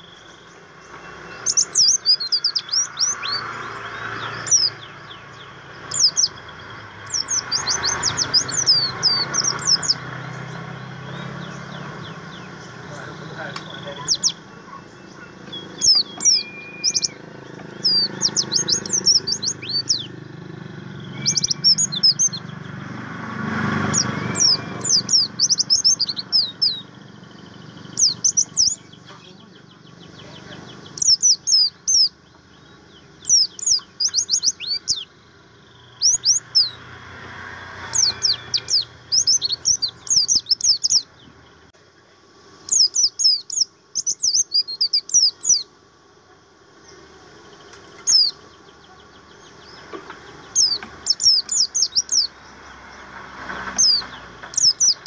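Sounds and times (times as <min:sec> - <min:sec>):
bird twittering chirps and trills: 0:00.0 - 0:55.0
low rushing background noise: 0:00.0 - 0:55.0.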